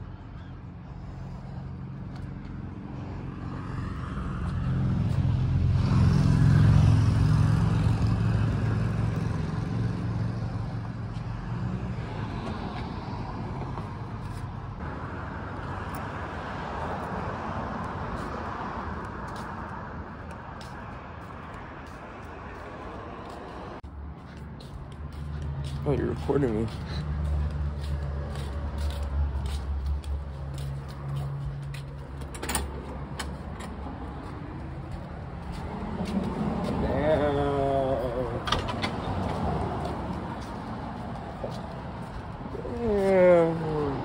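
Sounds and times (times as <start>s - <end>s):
vehicle engine passing by: 1.0s - 20.0s, 21.7s - 44.0s.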